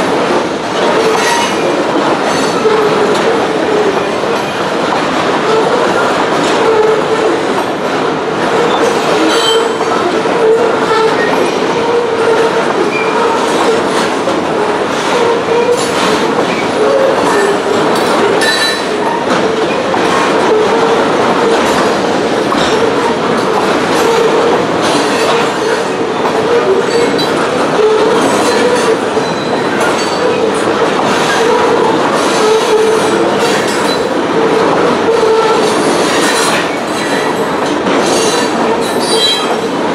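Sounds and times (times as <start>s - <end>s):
train wheels clacking over joints: 0.0s - 39.9s.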